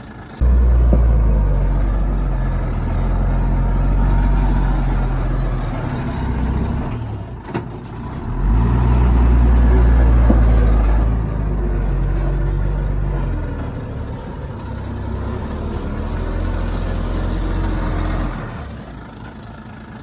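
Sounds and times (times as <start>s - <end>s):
heavy diesel engine running hard: 0.0s - 20.0s.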